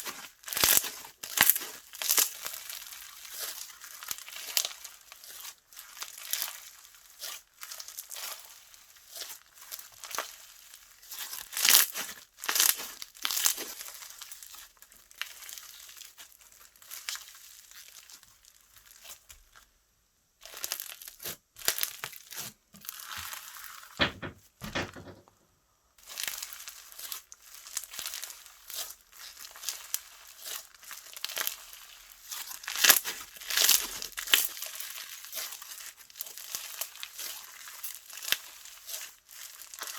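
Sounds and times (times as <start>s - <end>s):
slime squeezed crackling and popping: 0.0s - 19.6s, 20.4s - 24.0s, 26.0s - 39.9s.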